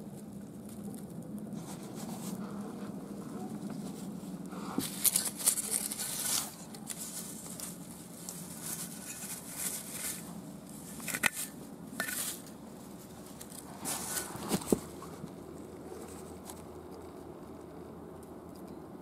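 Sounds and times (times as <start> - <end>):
dry grass and leaves rustling: 0.0 - 18.7
faint low hum: 0.0 - 19.0.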